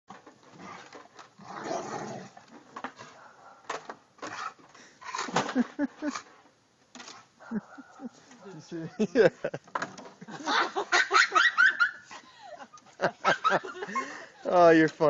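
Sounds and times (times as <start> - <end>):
rustle: 0.1 - 15.0.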